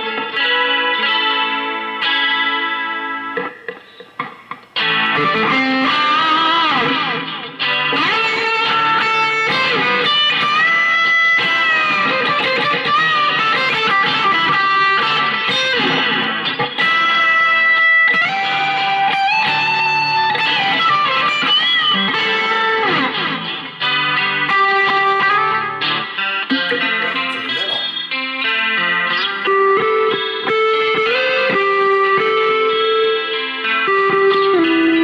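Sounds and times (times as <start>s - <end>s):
electric guitar lead lines: 0.0s - 35.0s.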